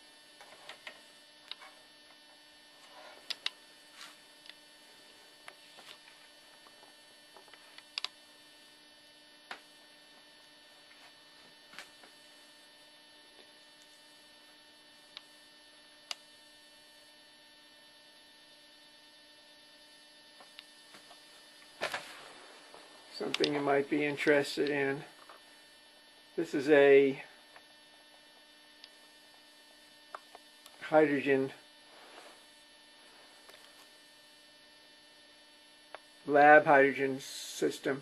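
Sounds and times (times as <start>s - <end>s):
faint electrical hum: 0.0s - 38.0s.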